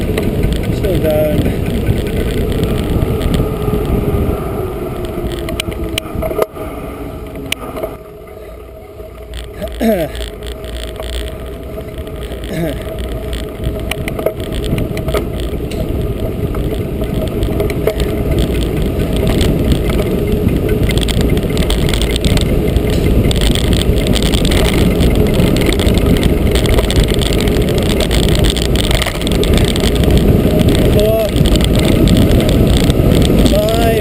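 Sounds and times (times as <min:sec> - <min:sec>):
bike tyres rolling on tarmac: 0:00.0 - 0:34.0
wind rushing over microphone: 0:00.0 - 0:34.0.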